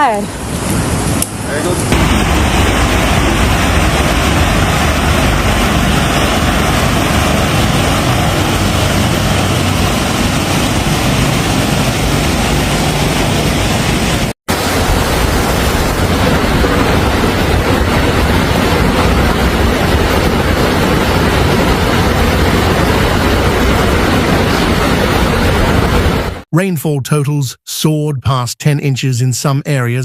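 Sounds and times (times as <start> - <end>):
floodwater rushing: 0.1 - 26.4.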